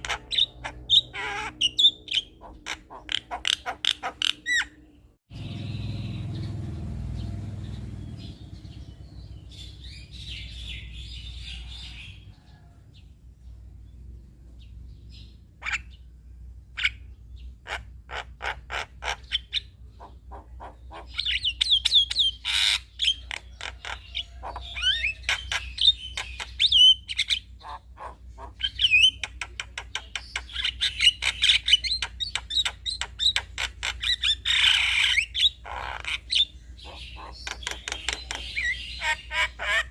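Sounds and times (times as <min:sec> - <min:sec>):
myna bird chattering song: 0:00.0 - 0:12.3, 0:16.7 - 0:39.9.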